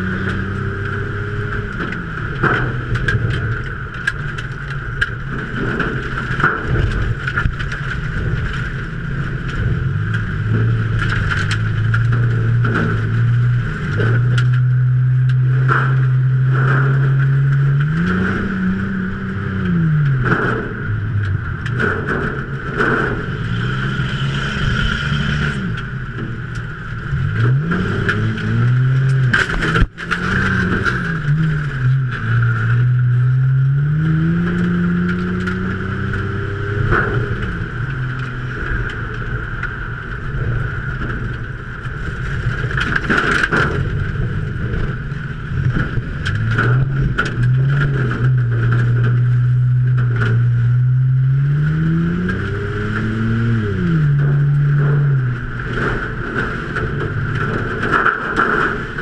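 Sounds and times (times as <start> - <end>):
race car engine revving: 0.0 - 59.0
rattles and clicks: 0.0 - 59.0.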